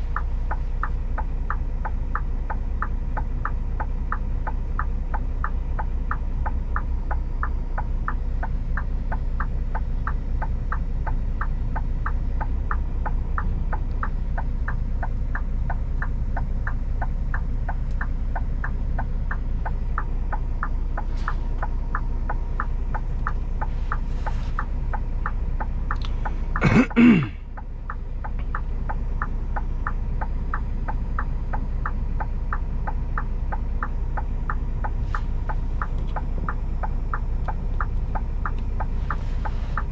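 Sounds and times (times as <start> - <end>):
diesel engine rumbling: 0.0 - 39.9
turn signal ticking: 0.0 - 39.9.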